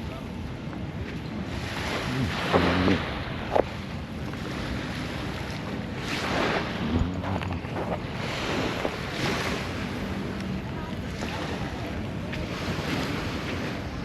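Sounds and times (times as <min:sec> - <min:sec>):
wind buffeting microphone: 0:00.0 - 0:14.0
surf washing onto beach: 0:01.0 - 0:14.0.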